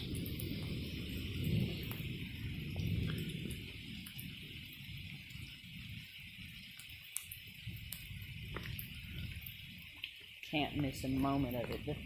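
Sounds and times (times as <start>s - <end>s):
heavy rain hiss: 0.0s - 12.0s
thunder rumble: 0.0s - 12.0s.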